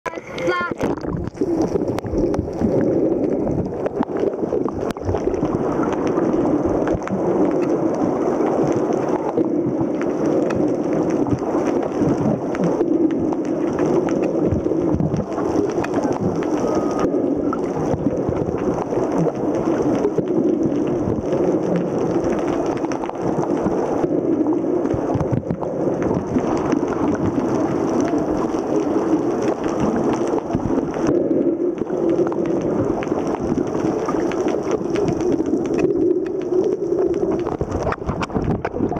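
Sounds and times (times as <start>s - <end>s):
faint crackles and ticks: 0.1s - 38.9s
muffled underwater rushing: 0.1s - 38.9s.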